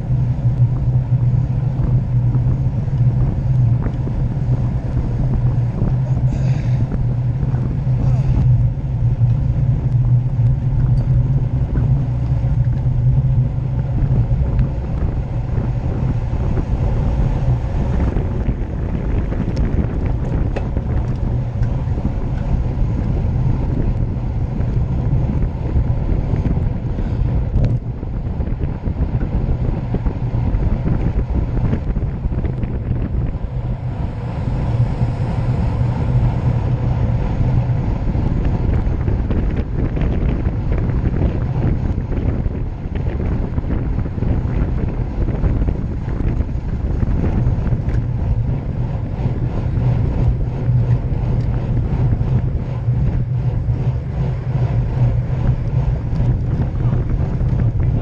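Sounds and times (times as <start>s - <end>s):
tyres rumbling on road: 0.0s - 58.0s
wind buffeting microphone: 0.0s - 58.0s.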